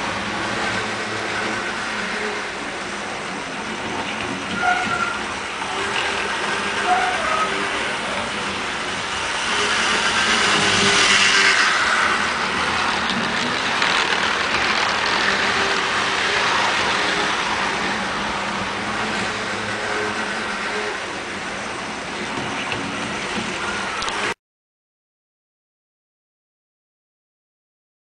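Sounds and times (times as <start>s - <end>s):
model train wheels rolling on rails: 0.0s - 24.4s.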